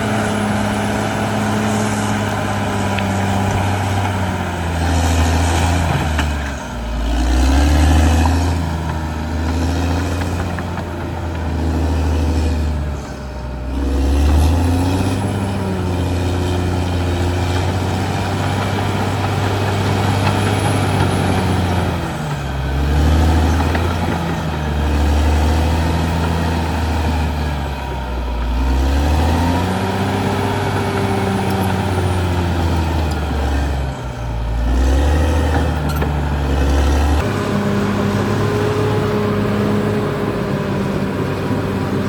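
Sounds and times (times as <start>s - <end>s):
bulldozer diesel engine under load: 0.0s - 42.0s.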